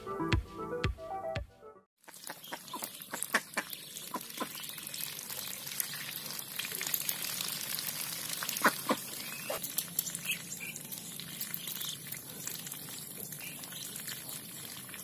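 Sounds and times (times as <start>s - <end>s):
ducks dabbling in water: 2.0s - 15.0s.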